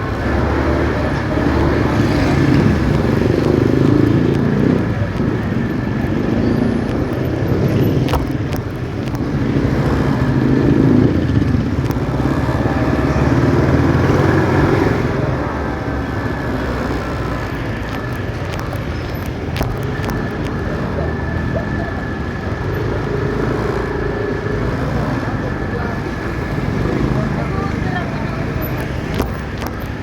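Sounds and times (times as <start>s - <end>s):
motorcycle engine: 0.0s - 30.0s
road noise: 0.0s - 30.0s.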